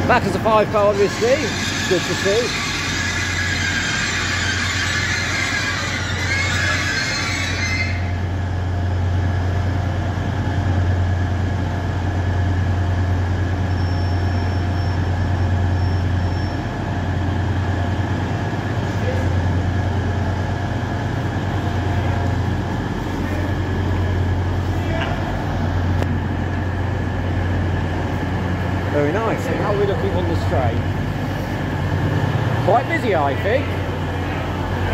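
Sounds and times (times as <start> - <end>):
diesel train engine idling: 0.0 - 34.9.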